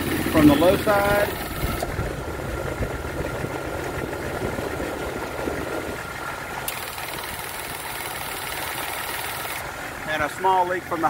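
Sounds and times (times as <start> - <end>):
air conditioning compressor whine: 0.0 - 9.7
car engine idling: 0.0 - 11.0.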